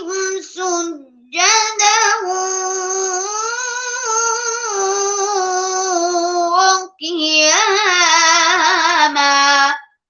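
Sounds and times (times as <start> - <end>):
boy reciting melodically: 0.0 - 10.0.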